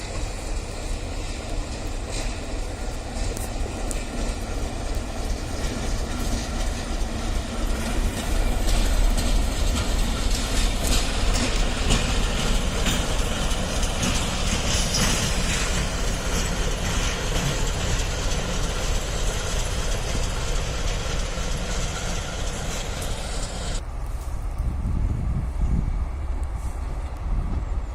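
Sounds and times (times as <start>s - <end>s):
freight train wheels rumbling: 0.0s - 27.9s.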